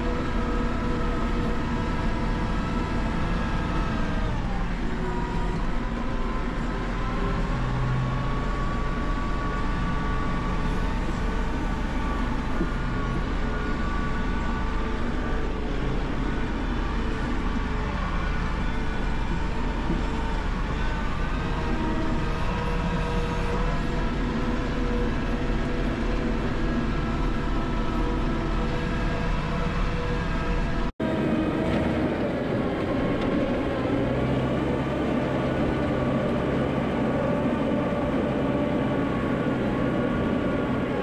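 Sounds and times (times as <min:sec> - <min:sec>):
tractor engine droning: 0:00.0 - 0:41.0.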